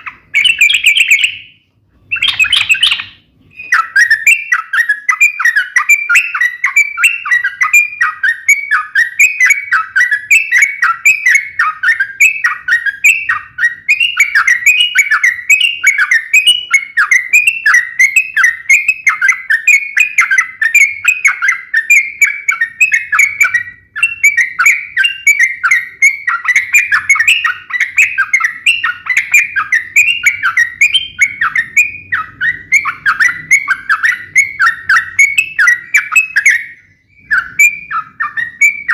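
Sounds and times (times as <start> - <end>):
bird singing rapid chirps: 0.0 - 38.9.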